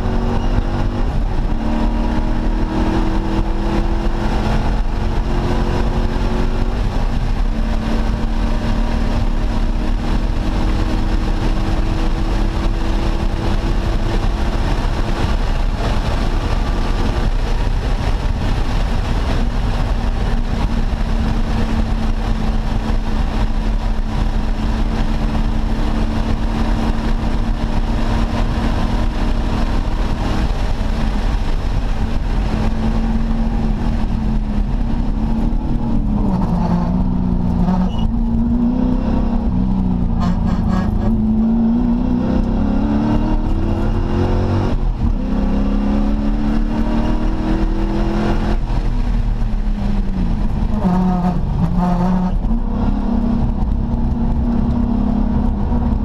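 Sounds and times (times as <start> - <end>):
race car engine running hard: 0.0 - 56.0
wind and road rush: 0.0 - 56.0.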